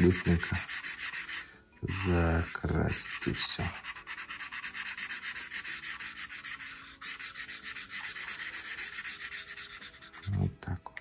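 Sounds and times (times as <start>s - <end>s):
marker scribbling on paper: 0.0s - 10.6s.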